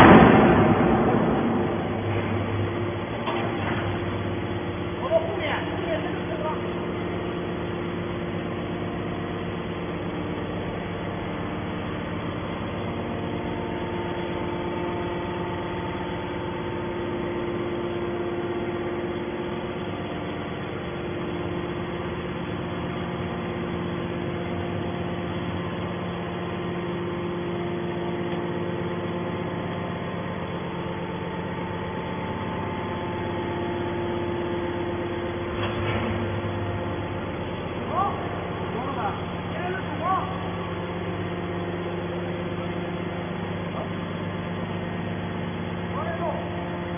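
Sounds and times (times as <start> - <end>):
baler machine hum: 0.0 - 46.9.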